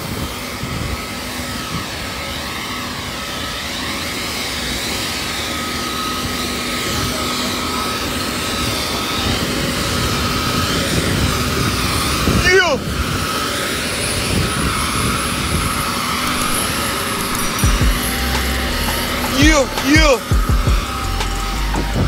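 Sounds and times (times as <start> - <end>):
jet engine whine and rush: 0.0 - 22.0.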